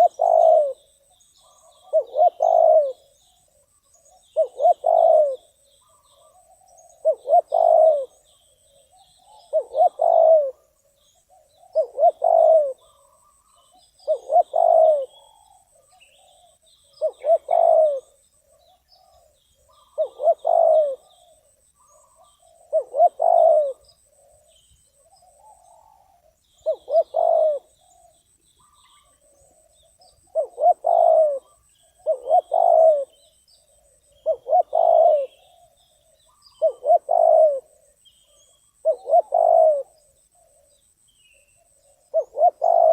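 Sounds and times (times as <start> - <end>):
dove cooing: 0.0 - 42.9
faint small bird chirps: 0.0 - 42.9.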